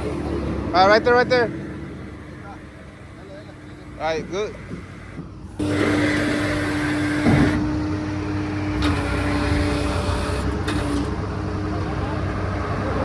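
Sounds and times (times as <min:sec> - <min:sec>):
vehicle motor humming: 0:00.0 - 0:13.0.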